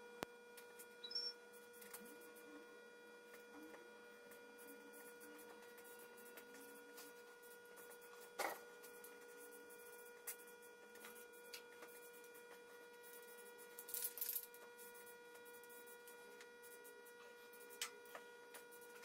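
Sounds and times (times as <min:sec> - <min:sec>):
high-pitched electrical whine: 0:00.0 - 0:19.0.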